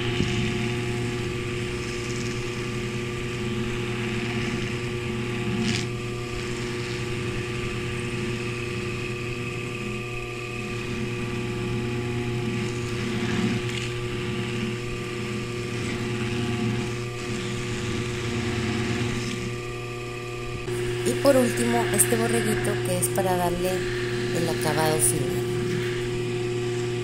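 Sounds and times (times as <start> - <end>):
polishing lathe motor running: 0.0 - 27.0.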